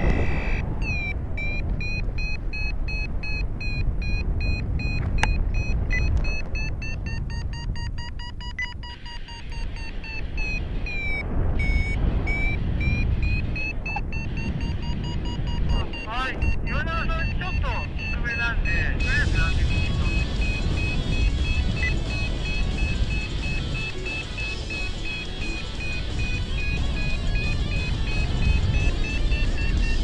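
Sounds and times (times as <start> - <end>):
steady electronic tone: 0.0 - 30.0
variometer beeping: 0.0 - 30.0
wind rumbling on microphone: 0.0 - 30.0.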